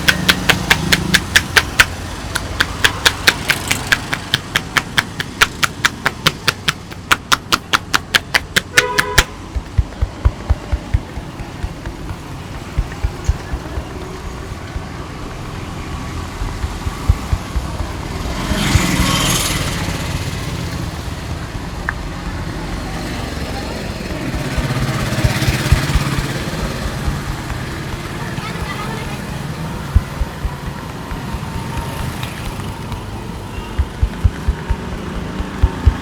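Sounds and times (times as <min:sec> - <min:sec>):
rapid hand slaps: 0:00.0 - 0:15.0, 0:16.2 - 0:19.6, 0:24.3 - 0:36.0
dull soft thumps: 0:00.0 - 0:15.5, 0:16.4 - 0:19.1, 0:24.6 - 0:29.0, 0:29.6 - 0:36.0
street traffic noise: 0:00.0 - 0:36.0.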